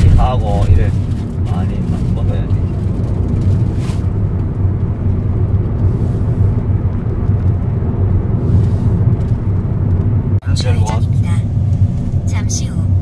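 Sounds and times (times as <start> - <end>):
car interior engine and road noise: 0.0 - 13.0.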